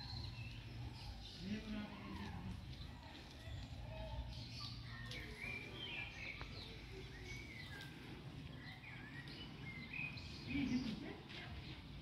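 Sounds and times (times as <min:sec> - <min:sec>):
outdoor ambience: 0:00.0 - 0:12.0
small birds chirping: 0:00.0 - 0:12.0.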